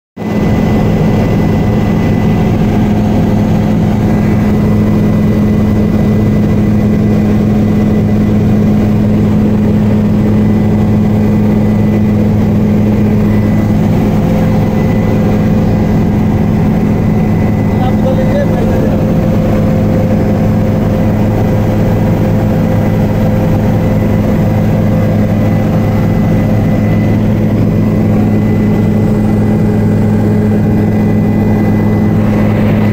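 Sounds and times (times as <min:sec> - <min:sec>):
helicopter rotors and engine drone: 0:00.2 - 0:32.9
faint high whine: 0:00.3 - 0:32.9.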